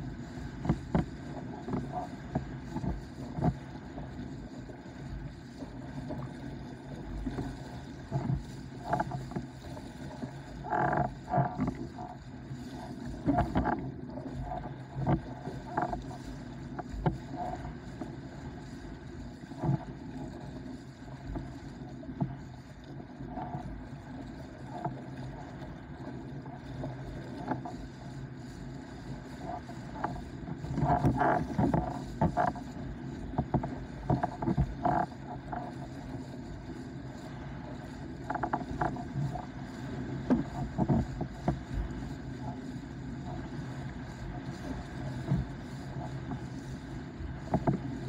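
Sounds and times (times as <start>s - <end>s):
board hull slapping waves: 0.0s - 48.0s
rush of water and wind: 0.0s - 48.0s.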